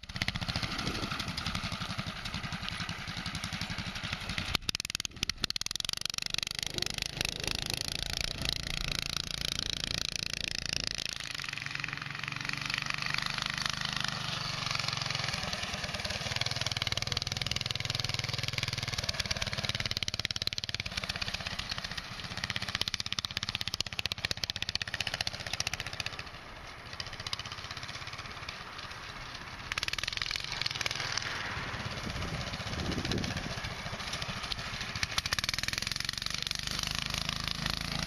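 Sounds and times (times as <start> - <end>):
go-kart engine revving: 0.0 - 38.0.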